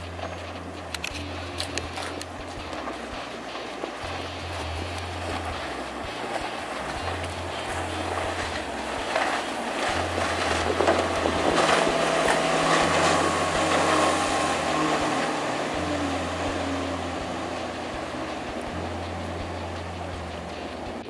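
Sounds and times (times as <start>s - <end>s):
outboard boat engine: 0.0s - 21.0s
water rushing: 0.0s - 21.0s
wind: 0.0s - 21.0s.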